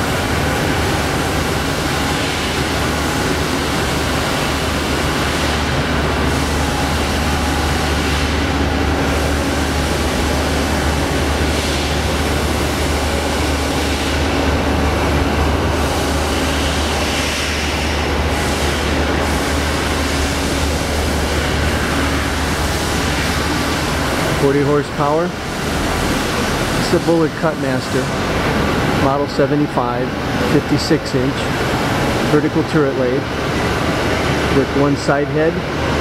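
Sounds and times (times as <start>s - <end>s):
machinery rumbling: 0.0s - 36.0s.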